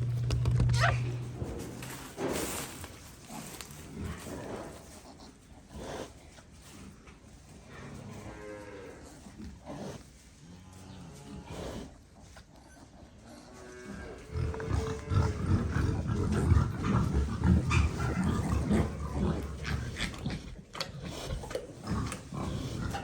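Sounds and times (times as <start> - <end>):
pig grunting: 0.0 - 6.9, 7.8 - 23.0.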